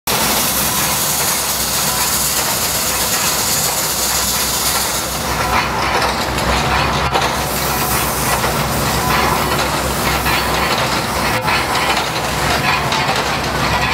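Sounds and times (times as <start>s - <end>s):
steam hissing: 0.1s - 13.9s.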